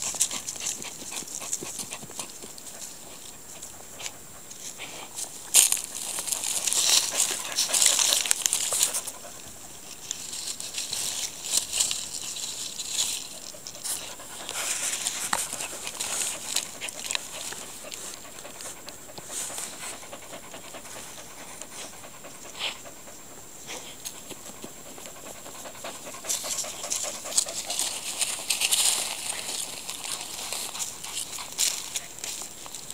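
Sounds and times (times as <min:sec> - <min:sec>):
dog panting: 0:00.0 - 0:10.3, 0:11.0 - 0:32.6
paws scraping dirt: 0:00.0 - 0:32.9.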